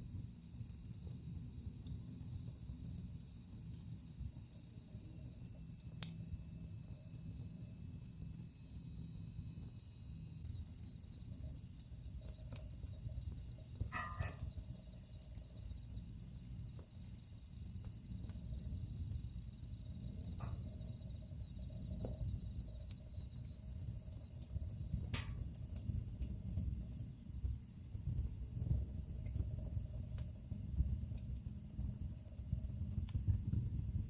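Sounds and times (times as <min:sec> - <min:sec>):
fireplace flames rumbling: 0:00.0 - 0:34.0
sharp fire pops: 0:00.0 - 0:34.0.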